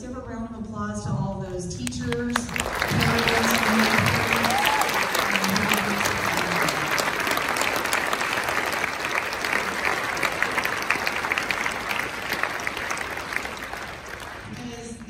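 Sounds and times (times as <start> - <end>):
audience applauding: 2.1 - 15.0.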